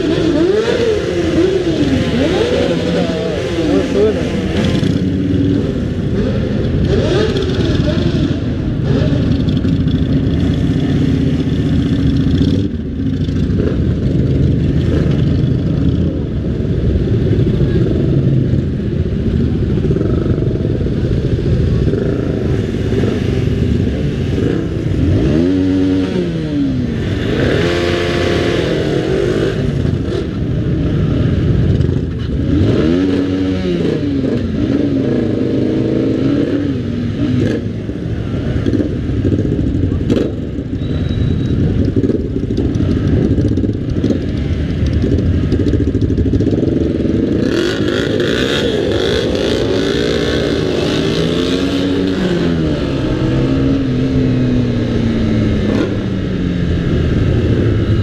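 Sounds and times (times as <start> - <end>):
engine revving: 0.0 - 16.1, 19.7 - 58.0
motorcycle engines rumbling: 0.0 - 58.0.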